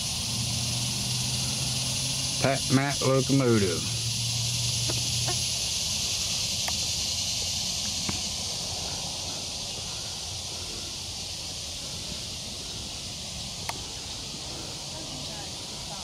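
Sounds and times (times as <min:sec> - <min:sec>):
insect chorus hissing: 0:00.0 - 0:16.0.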